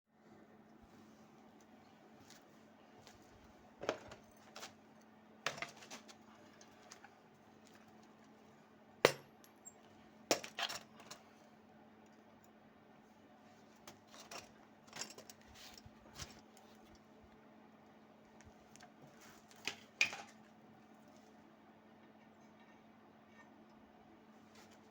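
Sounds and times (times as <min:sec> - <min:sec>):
faint steady hum: 0:00.1 - 0:24.9.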